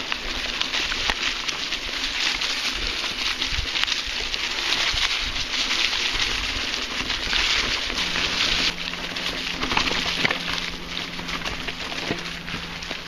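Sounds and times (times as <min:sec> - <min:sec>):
bike rattling over bumps: 0:00.0 - 0:13.0
faint steady hum: 0:00.0 - 0:13.0
tyres crunching through dry leaves: 0:00.0 - 0:13.0.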